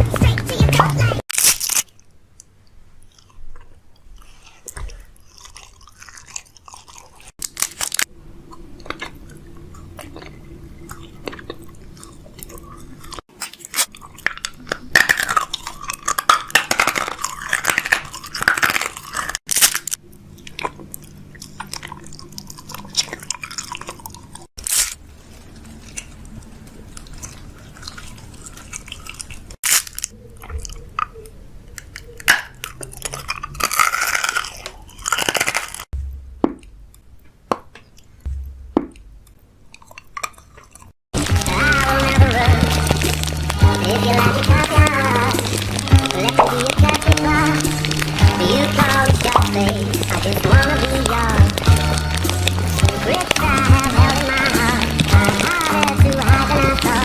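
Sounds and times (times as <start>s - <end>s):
chewing crunchy food: 0.0s - 57.0s.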